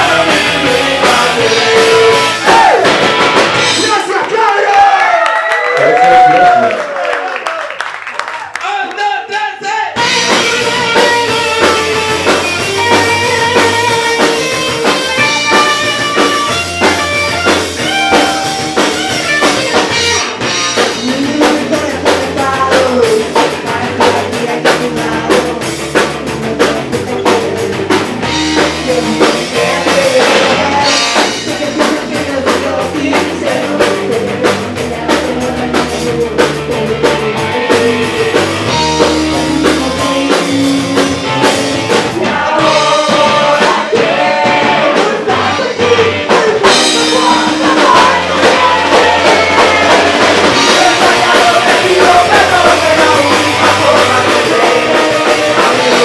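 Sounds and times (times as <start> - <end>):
punk rock band playing: 0.0 - 4.6, 9.9 - 56.0
shouted lead vocal: 0.0 - 7.6, 8.6 - 15.9, 17.8 - 27.8, 28.5 - 56.0.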